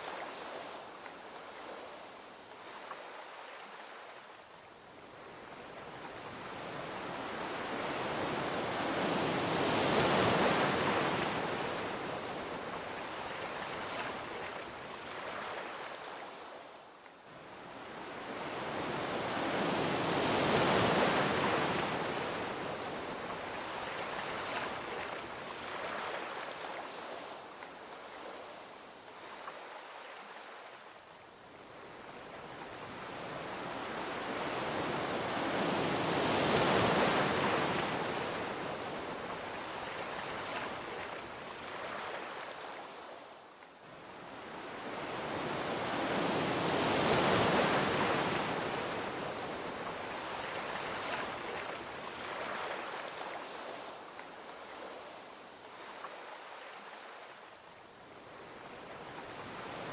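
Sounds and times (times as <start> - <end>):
ocean waves on a beach: 0.0 - 59.9.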